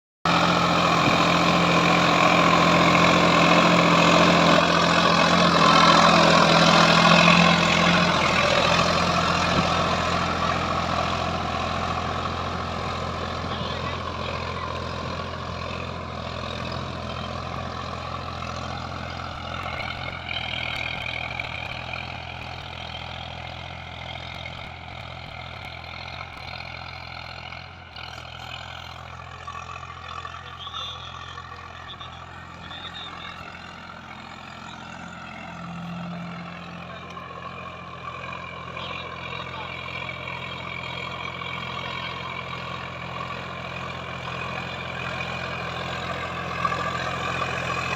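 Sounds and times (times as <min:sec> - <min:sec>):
tractor diesel engine running: 0:00.2 - 0:47.9.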